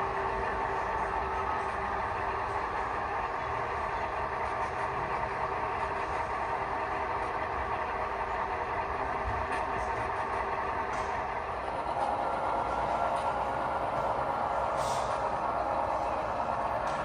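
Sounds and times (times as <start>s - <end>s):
diesel engine sound from speakers: 0.0s - 17.0s.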